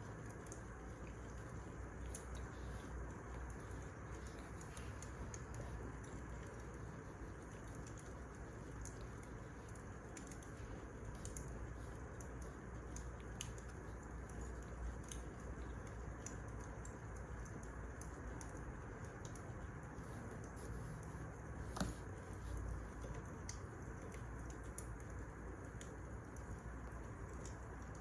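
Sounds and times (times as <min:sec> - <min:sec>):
low rumble and hiss: 0:00.0 - 0:28.0.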